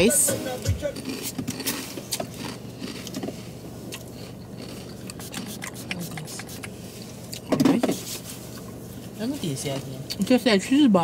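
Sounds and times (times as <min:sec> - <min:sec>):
low car hum: 0:00.0 - 0:11.0.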